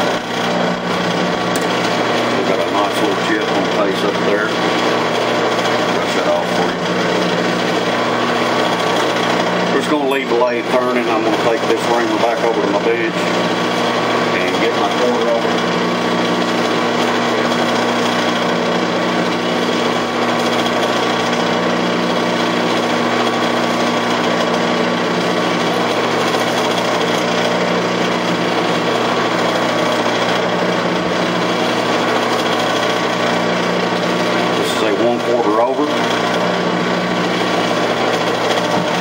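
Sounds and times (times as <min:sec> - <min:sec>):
metal lathe humming: 0:00.0 - 0:39.0.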